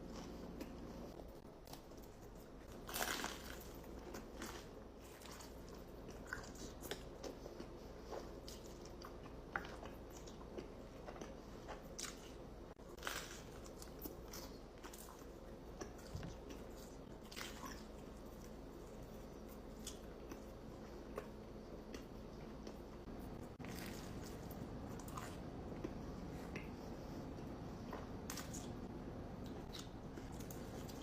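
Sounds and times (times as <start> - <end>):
low steady hum: 0.0 - 31.0
person chewing pizza: 0.0 - 31.0.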